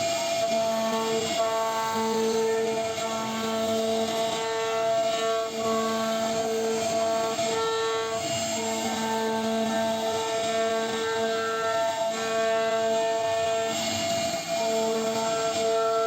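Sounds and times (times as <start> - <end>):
router spindle whining: 0.0 - 16.0.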